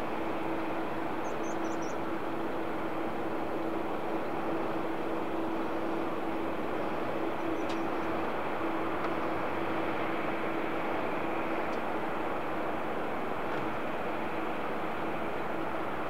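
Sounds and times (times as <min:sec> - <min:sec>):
jet engines running: 0:00.0 - 0:16.0
steady low hum: 0:00.0 - 0:16.0.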